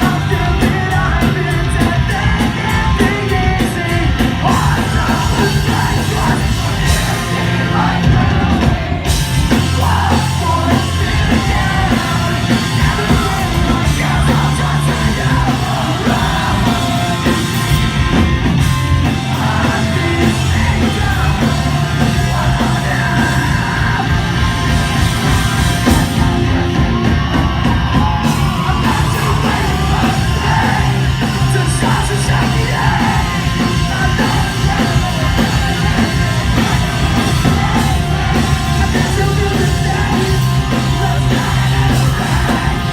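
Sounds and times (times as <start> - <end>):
live punk rock band: 0.0 - 42.9
yelled and sung vocal: 0.0 - 42.9.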